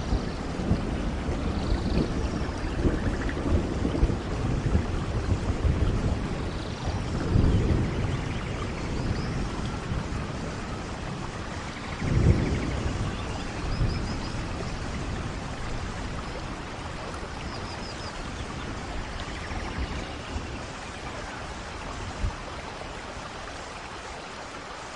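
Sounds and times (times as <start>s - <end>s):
thunder rolling: 0.0s - 23.3s
steady rain falling: 0.0s - 24.9s.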